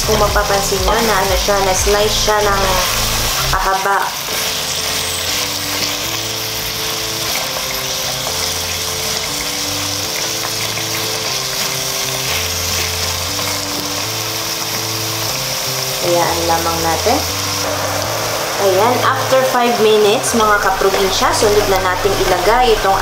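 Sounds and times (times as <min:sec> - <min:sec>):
meat sizzling in oil: 0:00.0 - 0:23.0
soft background music: 0:00.0 - 0:23.0.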